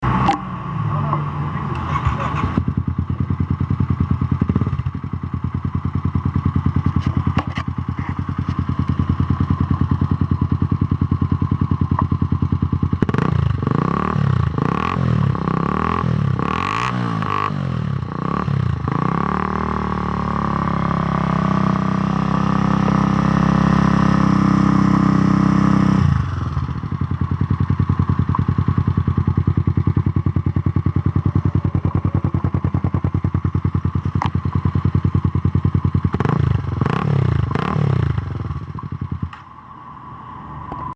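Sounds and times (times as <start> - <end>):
motorcycle engine revving: 0.0 - 39.6.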